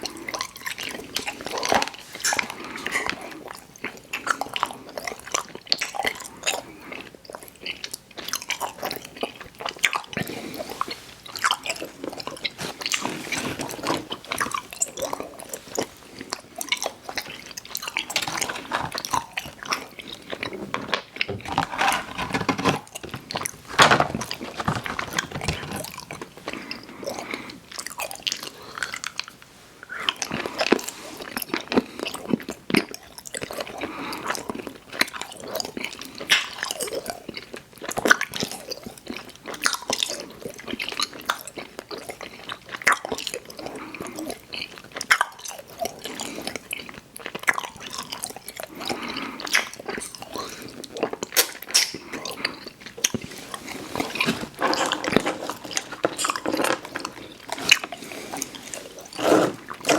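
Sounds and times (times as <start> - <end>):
chewing gummy candy: 0.0 - 59.9.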